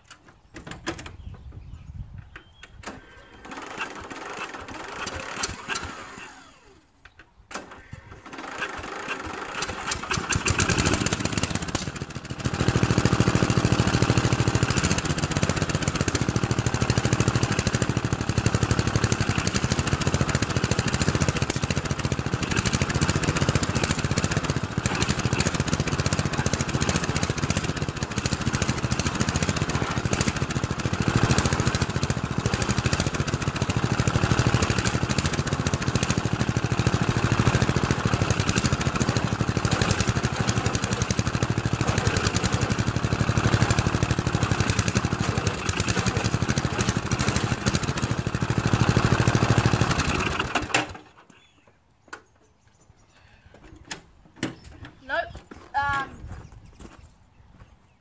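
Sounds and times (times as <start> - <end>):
ride-on lawnmower engine straining: 0.0 - 52.4.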